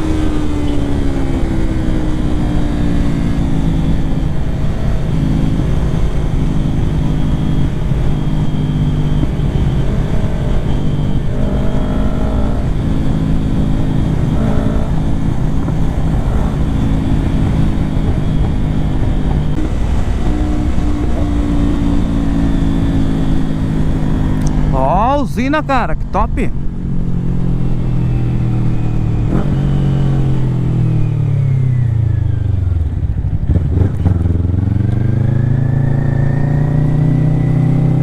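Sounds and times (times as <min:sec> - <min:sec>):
motorcycle engine cruising: 0:00.0 - 0:38.0.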